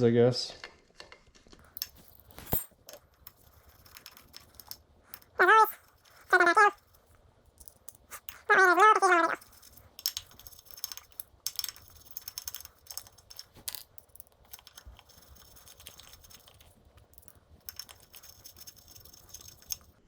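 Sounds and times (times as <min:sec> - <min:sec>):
hand tools clicking and tapping: 0:01.6 - 0:20.0.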